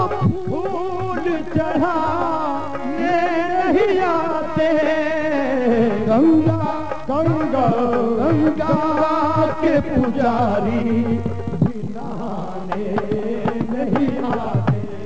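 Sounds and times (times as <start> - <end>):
harmonium: 0.0 - 15.0.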